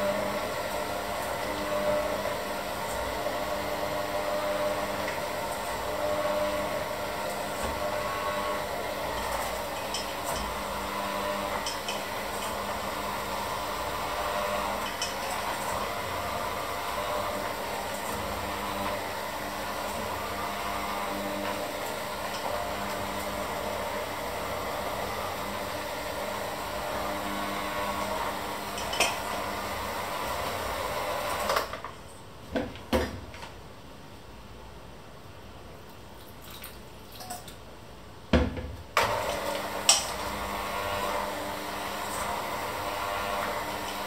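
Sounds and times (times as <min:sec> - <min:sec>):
electric hand mixer running: 0:00.0 - 0:31.7, 0:39.0 - 0:44.0.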